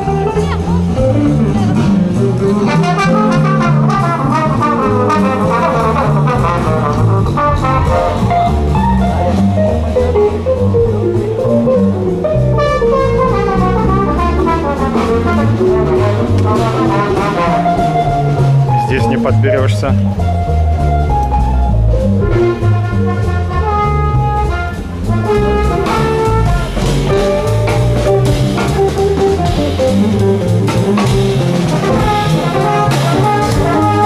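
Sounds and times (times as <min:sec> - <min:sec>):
live jazz band: 0:00.0 - 0:34.0.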